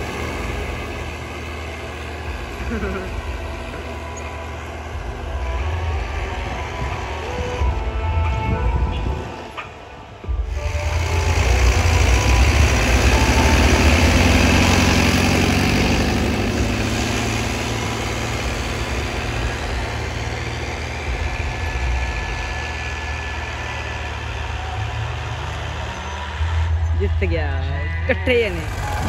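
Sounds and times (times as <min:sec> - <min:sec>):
tractor diesel engines under load: 0:00.0 - 0:29.0.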